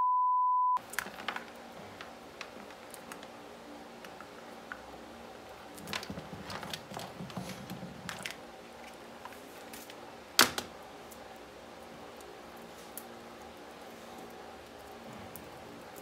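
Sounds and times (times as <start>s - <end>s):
wire leads rustling: 0.8s - 16.0s.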